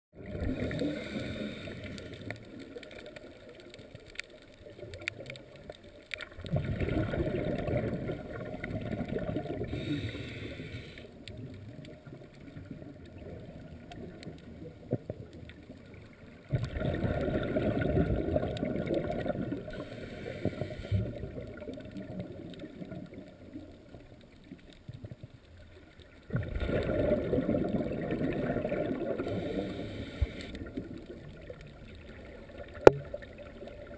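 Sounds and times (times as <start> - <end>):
underwater bubbling exhalation: 0.2 - 3.2, 6.2 - 15.3, 16.4 - 24.0, 26.3 - 33.9.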